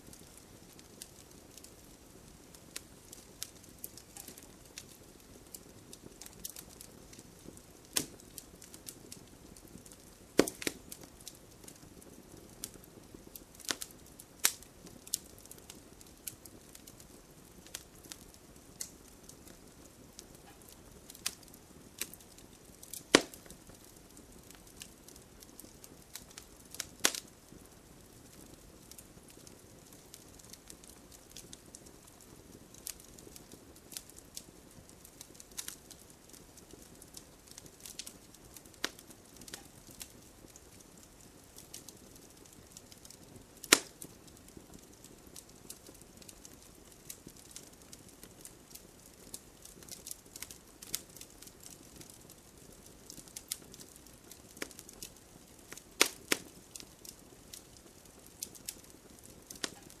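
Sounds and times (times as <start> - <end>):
low hiss: 0.0 - 60.0
wood fire crackling and popping: 0.0 - 60.0.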